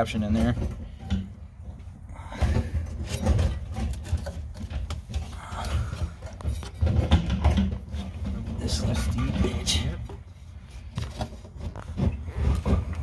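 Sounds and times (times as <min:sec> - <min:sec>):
metal parts knocking and clattering: 0:00.0 - 0:13.0.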